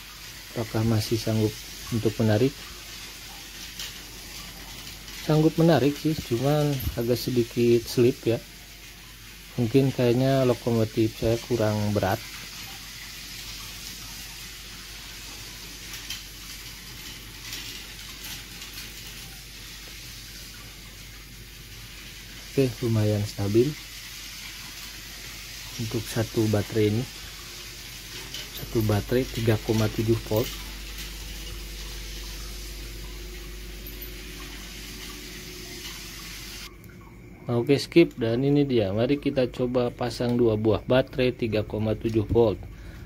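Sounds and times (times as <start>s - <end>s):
toy train motor whirring: 0.0s - 36.7s.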